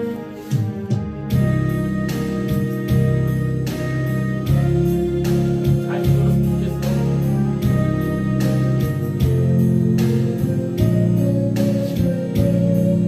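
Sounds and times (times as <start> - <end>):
instrumental ballad music: 0.0 - 13.0.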